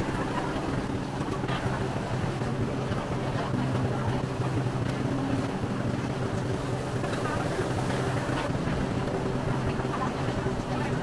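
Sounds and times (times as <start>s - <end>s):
chatter of people: 0.0s - 11.0s
low mechanical hum: 0.0s - 11.0s.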